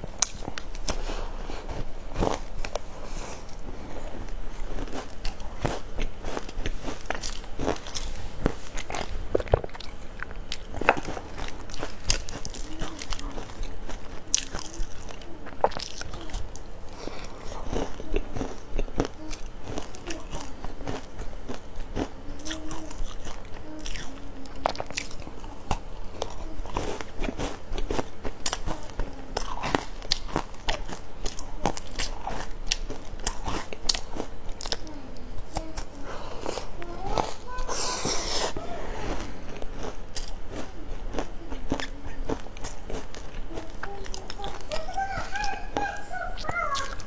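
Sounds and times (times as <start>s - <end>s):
chewing crisp pastry: 0.0s - 47.0s.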